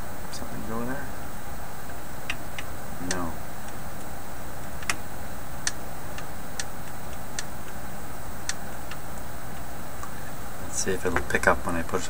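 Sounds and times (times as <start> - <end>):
record changer ticking: 1.3 - 12.0.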